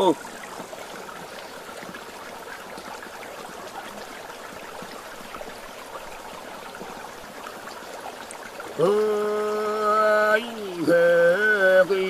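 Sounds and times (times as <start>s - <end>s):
stream babbling over stones: 0.0s - 12.0s.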